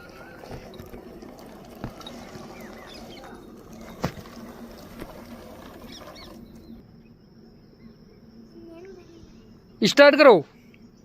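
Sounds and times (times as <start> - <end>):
steady low hum: 0.0 - 9.8
birds chirping: 0.0 - 11.0.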